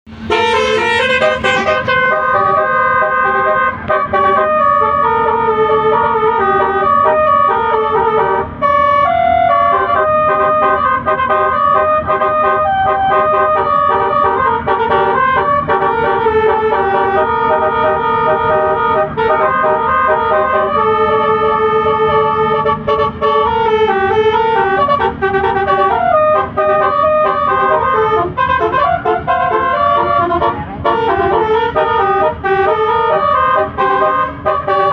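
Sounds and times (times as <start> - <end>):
bus horn playing melody: 0.1 - 34.9.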